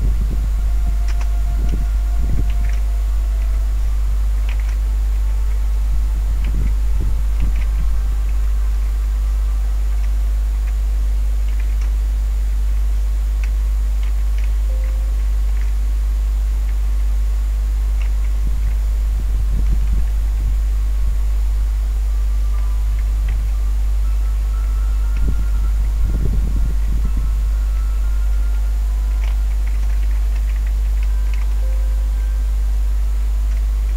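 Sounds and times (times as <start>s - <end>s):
faint high-pitched whine: 0.0s - 33.9s
low electrical hum: 0.0s - 33.9s.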